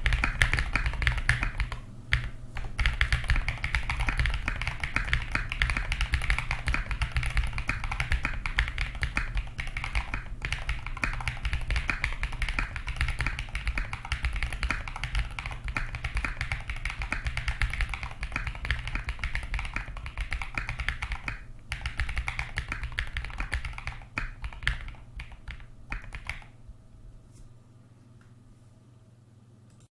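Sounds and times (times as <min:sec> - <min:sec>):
mechanical keyboard typing: 0:00.0 - 0:26.5.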